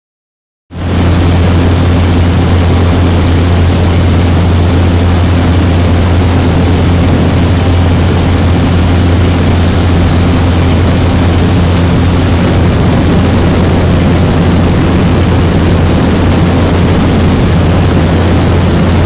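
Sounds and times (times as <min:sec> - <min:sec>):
outboard motor drone: 0:00.7 - 0:19.0
rush of wind and water: 0:00.7 - 0:19.0.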